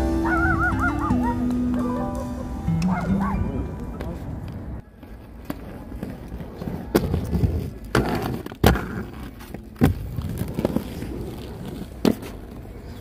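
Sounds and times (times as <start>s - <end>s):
skate wheels rolling on concrete: 0.0s - 13.0s
skates clacking on ground: 0.2s - 13.0s.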